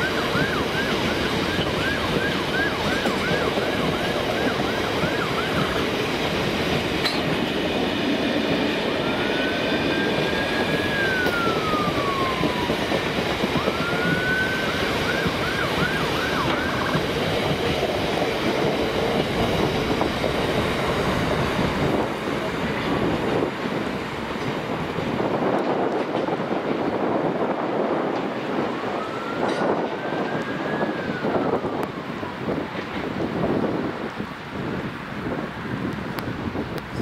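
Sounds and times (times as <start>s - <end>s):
emergency vehicle siren: 0.0s - 6.8s, 8.2s - 23.8s, 25.2s - 32.7s
freight train wheels on rail: 0.0s - 37.0s.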